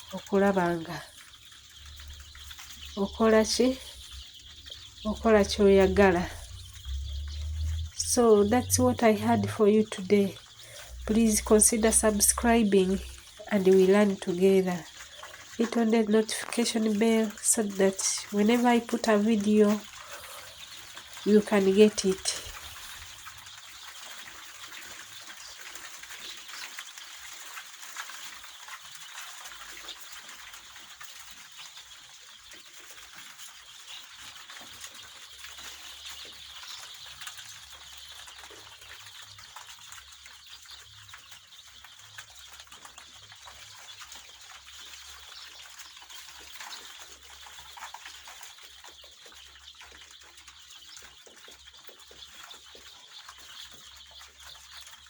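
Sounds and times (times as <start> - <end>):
poultry calling and chirping: 0.0 - 55.0.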